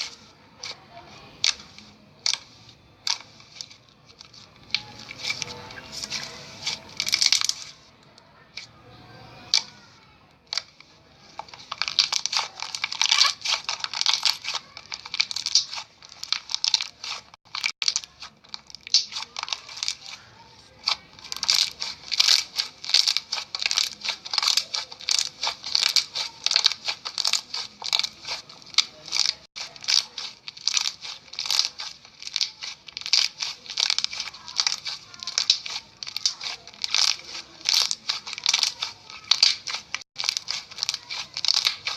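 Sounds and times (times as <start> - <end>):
slime crackling and popping: 0.0 - 41.9.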